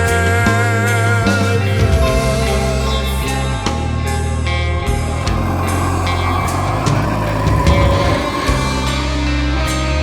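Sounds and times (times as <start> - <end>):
bass: 0.0 - 10.0.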